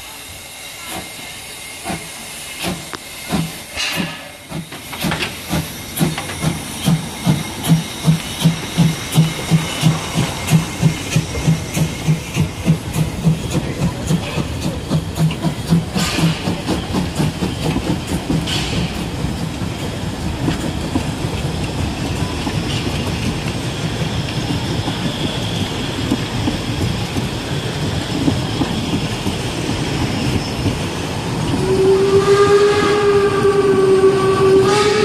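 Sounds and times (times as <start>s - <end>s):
steam hissing: 0.0s - 35.0s
steam locomotive chuffing: 0.0s - 35.0s.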